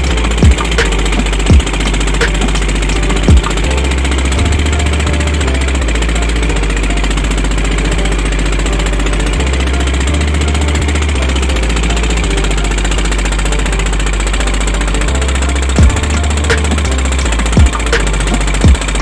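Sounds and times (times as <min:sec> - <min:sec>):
motorboat engine knocking: 0:00.0 - 0:14.7, 0:15.3 - 0:19.0.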